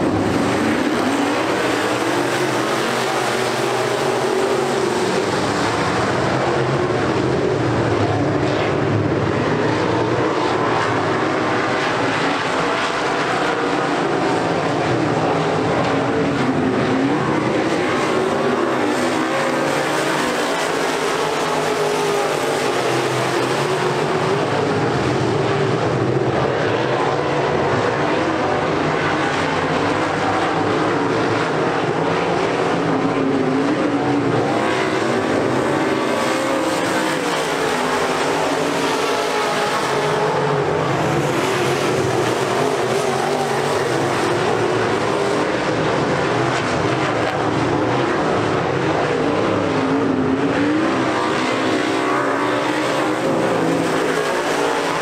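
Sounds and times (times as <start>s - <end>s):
race car engines droning: 0.0s - 55.0s.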